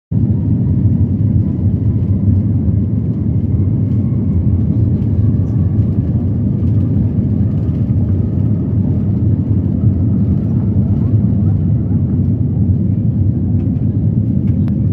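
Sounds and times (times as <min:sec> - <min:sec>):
aeroplane engines rumbling: 0:00.1 - 0:14.9.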